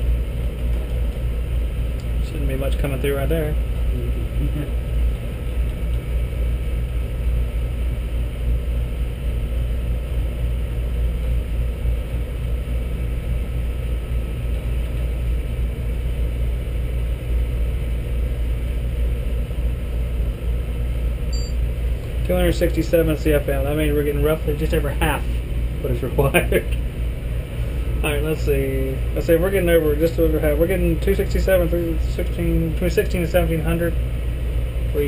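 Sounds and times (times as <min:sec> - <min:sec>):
air handler blower rushing air: 0:00.0 - 0:35.0.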